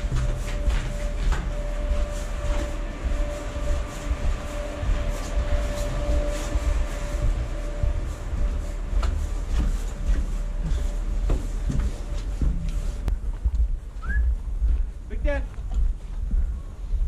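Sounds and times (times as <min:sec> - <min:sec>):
footsteps on steel deck: 0:00.0 - 0:17.0
ship machinery rumble: 0:00.0 - 0:17.0.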